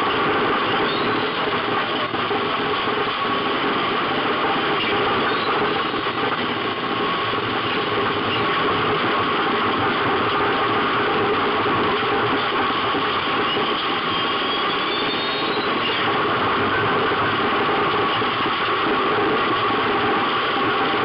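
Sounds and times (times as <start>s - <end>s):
road noise rush: 0.0s - 21.0s.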